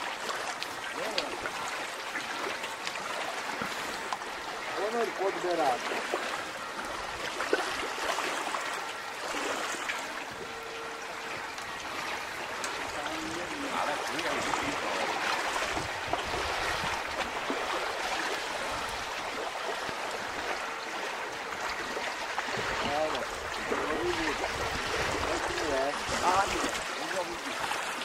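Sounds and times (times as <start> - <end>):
water lapping against boat: 0.0 - 28.0.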